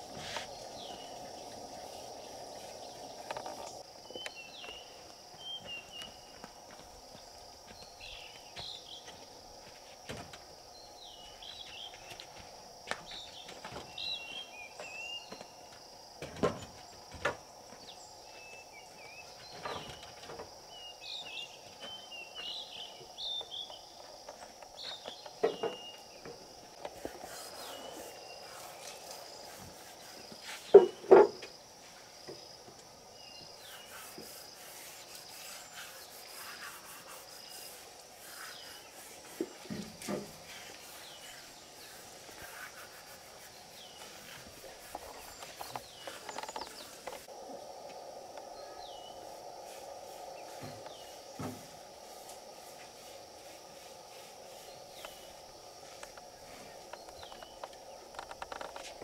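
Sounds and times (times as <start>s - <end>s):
birds chirping: 0.0s - 9.6s, 10.4s - 31.6s, 32.2s - 52.1s, 53.4s - 59.0s
insects droning: 0.0s - 59.0s.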